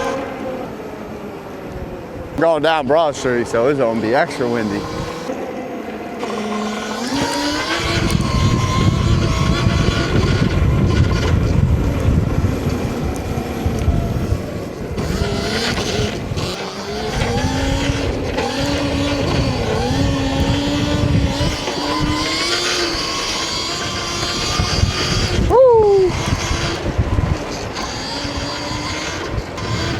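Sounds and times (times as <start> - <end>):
electric motor whining: 0.0 - 1.9, 3.6 - 29.9
wind buffeting microphone: 0.0 - 29.9.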